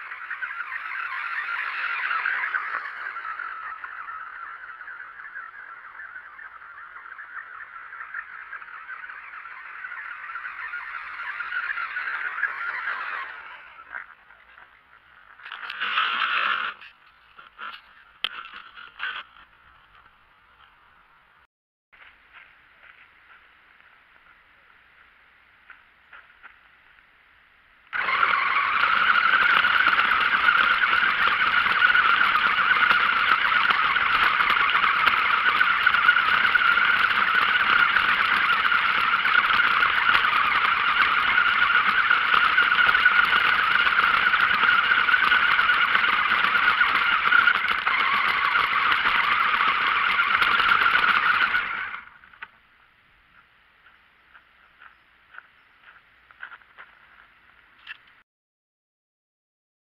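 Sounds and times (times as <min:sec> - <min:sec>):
toy car motor and tyres on grit: 0:00.0 - 0:21.4, 0:27.9 - 0:58.2.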